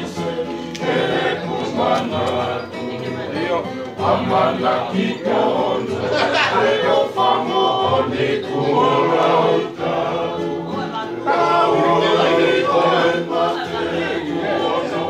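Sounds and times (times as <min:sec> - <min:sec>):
men singing in harmony: 0:00.0 - 0:15.0
strummed acoustic guitar: 0:00.0 - 0:15.0.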